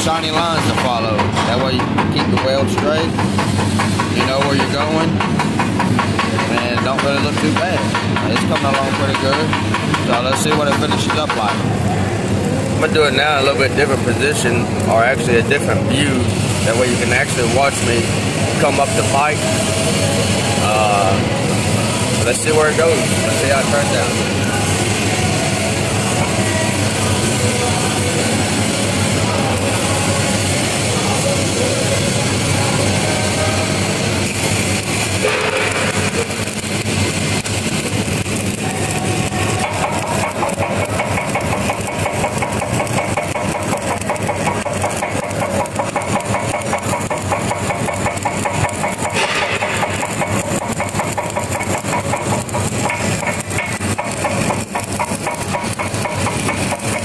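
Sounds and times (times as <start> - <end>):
engine running: 0.0 - 57.0
welding arc crackling: 0.0 - 57.0.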